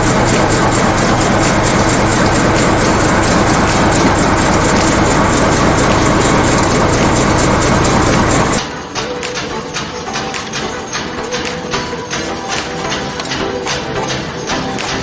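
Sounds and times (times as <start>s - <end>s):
machine mechanical strokes: 0.0s - 15.0s.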